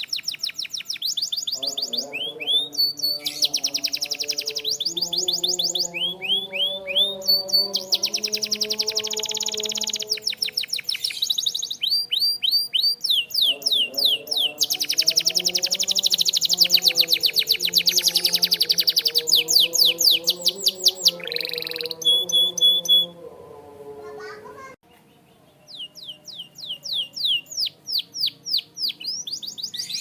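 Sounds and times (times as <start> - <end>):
canary singing trills: 0.0 - 23.2, 24.9 - 30.0.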